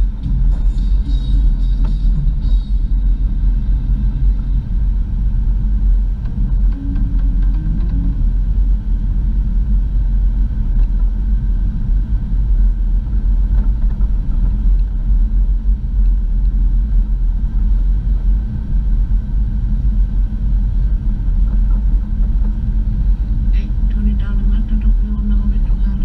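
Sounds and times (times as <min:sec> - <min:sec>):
vehicle engine and tyre rumble: 0:00.0 - 0:26.0.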